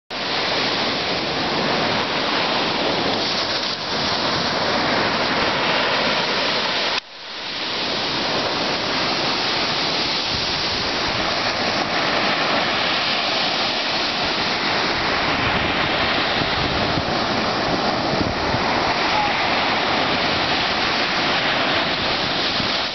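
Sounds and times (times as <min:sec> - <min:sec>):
surf breaking on sandy beach: 0:00.1 - 0:22.9.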